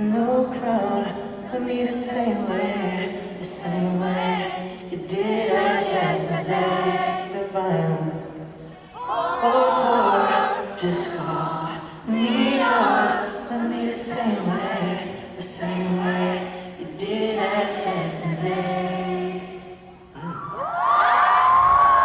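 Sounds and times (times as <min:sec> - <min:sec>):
crowd singing together: 0:00.0 - 0:20.6.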